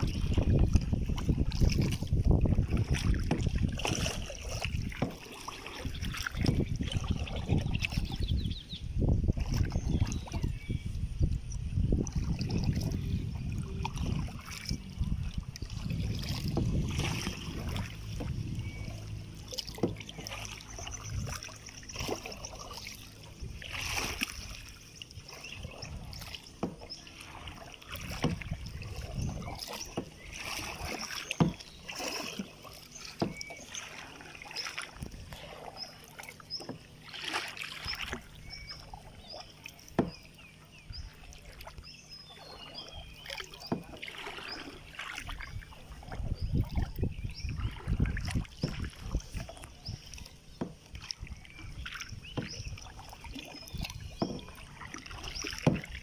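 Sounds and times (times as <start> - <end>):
paddle dipping into water: 0.0 - 56.0
water splashing: 0.0 - 56.0.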